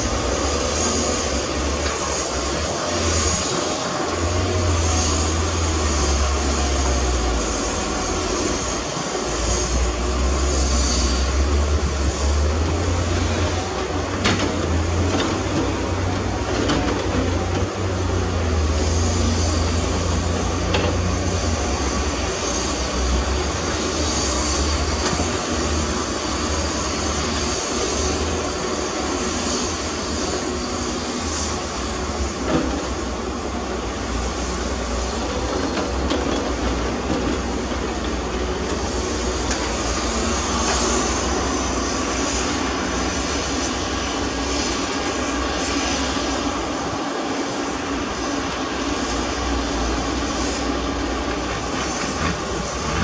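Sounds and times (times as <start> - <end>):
heavy diesel machinery rumbling: 0.0 - 53.0.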